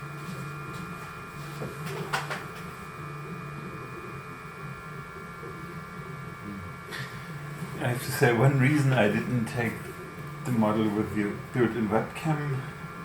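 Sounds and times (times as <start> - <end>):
printer motors humming: 0.0 - 13.0
steady high whine: 0.0 - 13.0.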